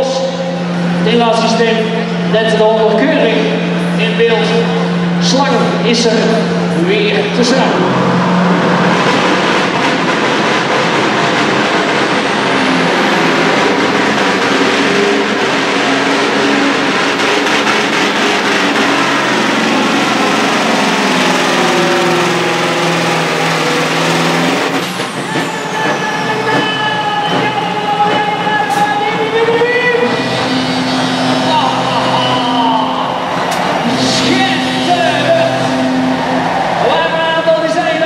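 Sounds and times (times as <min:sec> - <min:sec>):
truck diesel engine running hard: 0:00.0 - 0:37.7.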